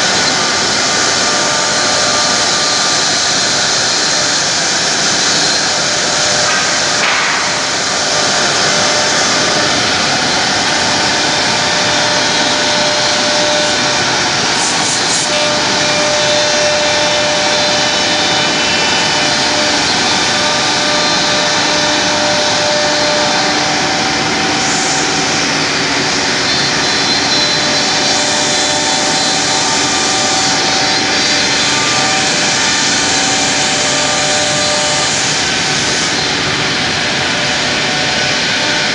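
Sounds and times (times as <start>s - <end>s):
router cutting wood: 0.0s - 38.9s.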